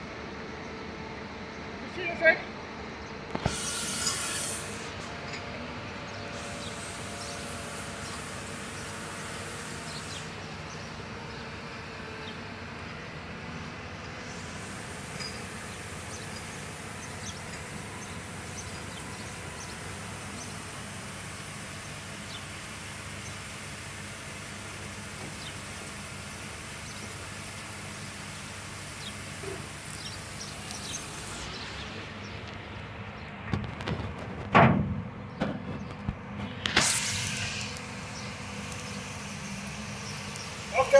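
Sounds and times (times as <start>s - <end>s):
low mechanical drone: 0.0s - 40.9s.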